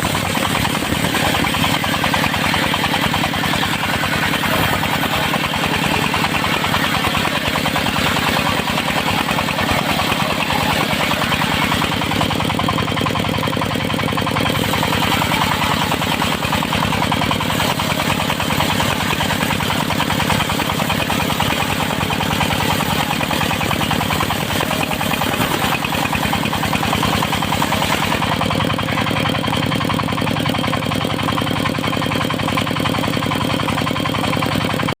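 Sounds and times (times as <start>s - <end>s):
sawmill engine running: 0.0s - 35.0s.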